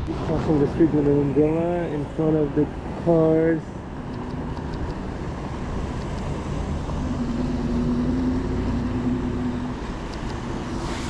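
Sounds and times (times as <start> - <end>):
heavy rain and road noise: 0.0 - 11.0
vehicle engine hum: 0.0 - 11.0.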